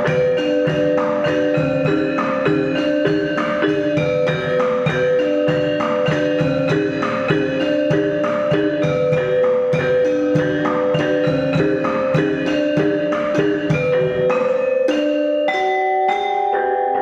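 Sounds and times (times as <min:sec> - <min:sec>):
tuned percussion music: 0:00.0 - 0:17.0.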